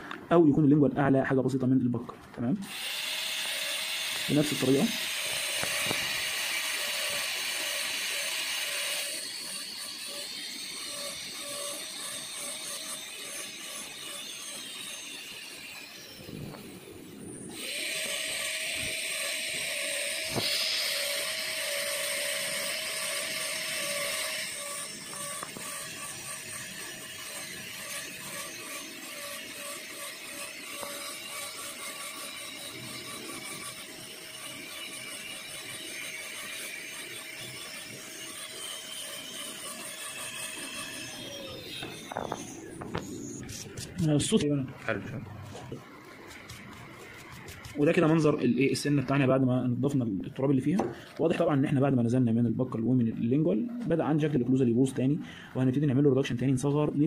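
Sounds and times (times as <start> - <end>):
dental drill whining: 2.6 - 50.0.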